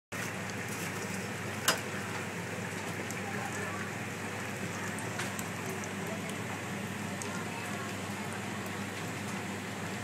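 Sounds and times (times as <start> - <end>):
oil sizzling in deep fryer: 0.1 - 10.0.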